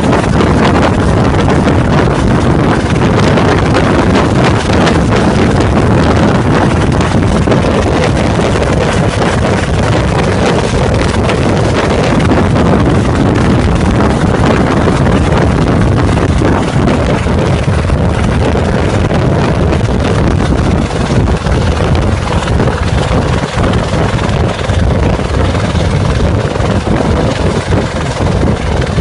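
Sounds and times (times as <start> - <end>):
helicopter engine and rotor: 0.0 - 29.0
wind buffeting microphone: 0.0 - 29.0.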